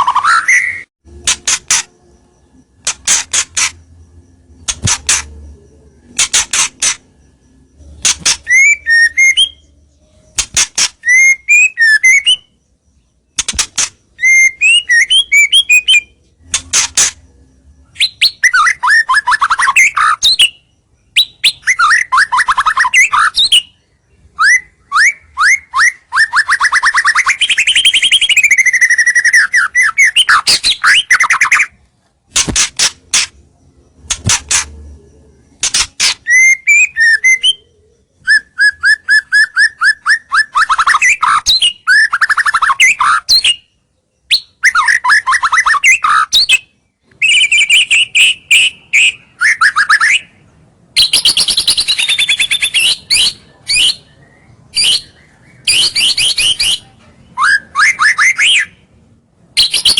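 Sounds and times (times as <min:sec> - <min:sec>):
bird singing trills and whistles: 0:00.0 - 0:31.8, 0:32.4 - 0:59.0, 0:59.6 - 0:59.9.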